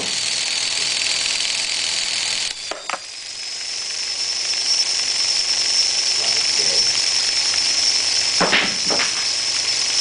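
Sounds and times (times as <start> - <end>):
motors and gearbox whining: 0.0 - 10.0.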